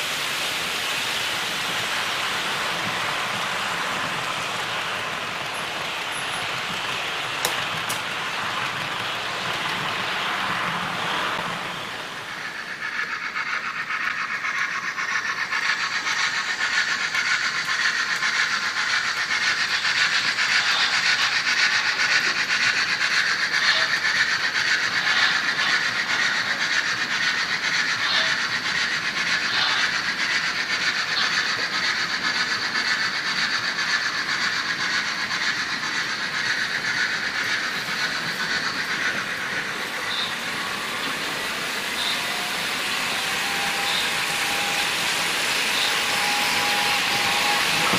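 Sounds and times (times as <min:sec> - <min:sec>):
model trains rolling whir: 0:00.0 - 0:47.9.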